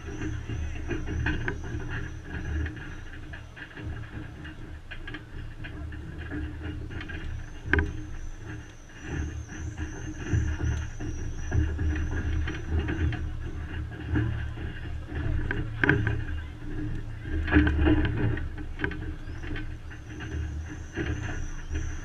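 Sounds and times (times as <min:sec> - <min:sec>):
outdoor crowd noise: 0:00.0 - 0:22.0
wind rumble on microphone: 0:00.0 - 0:22.0.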